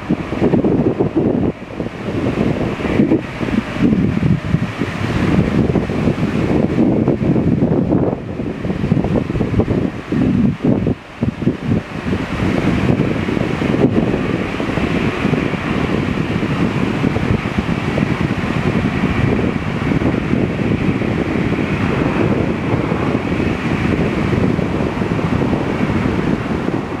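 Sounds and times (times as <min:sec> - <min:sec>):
jet engines roaring: 0:00.0 - 0:27.0
wind buffeting microphone: 0:00.0 - 0:27.0.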